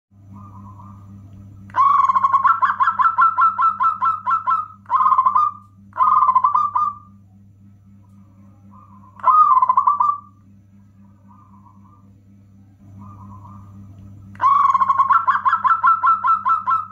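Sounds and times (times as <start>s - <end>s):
steady low hum: 0.1s - 16.9s
dove cooing: 0.2s - 7.2s, 8.6s - 10.4s, 11.0s - 12.1s, 12.8s - 16.9s.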